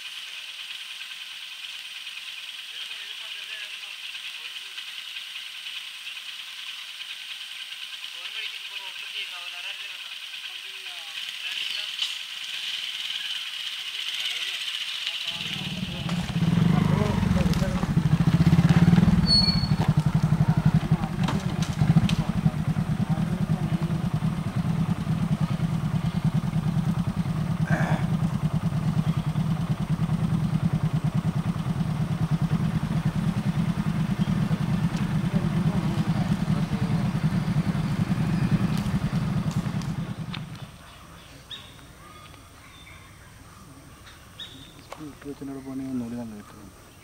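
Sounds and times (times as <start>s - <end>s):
vehicle engine idling: 0.1s - 47.0s.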